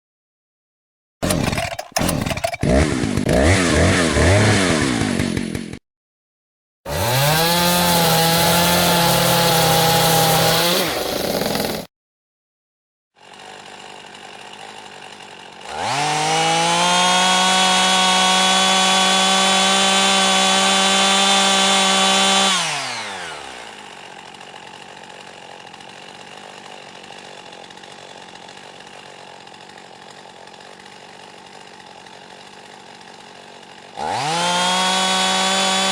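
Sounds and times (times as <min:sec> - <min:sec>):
chainsaw engine revving: 0:01.2 - 0:05.8, 0:06.9 - 0:11.9, 0:13.2 - 0:35.9.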